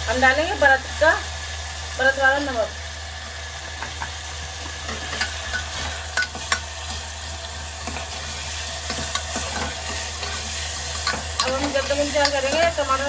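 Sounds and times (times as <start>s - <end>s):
vegetables sizzling in ghee: 0.0s - 13.0s.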